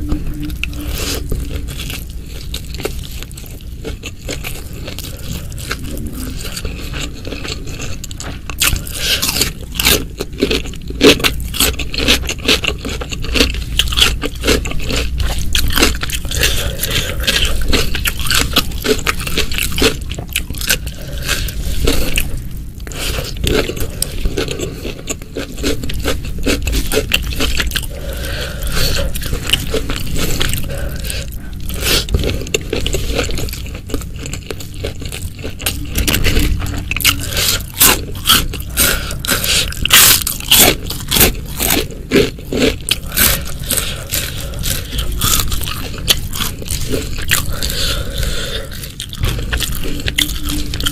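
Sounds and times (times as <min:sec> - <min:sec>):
person crunching and chewing food: 0:00.0 - 0:50.9.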